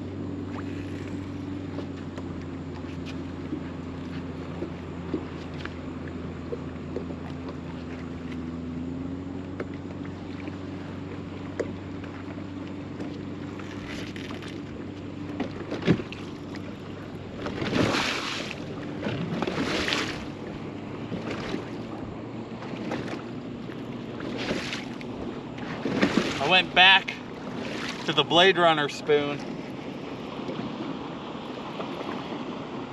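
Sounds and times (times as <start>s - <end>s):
electric trolling motor humming: 0.0s - 32.9s.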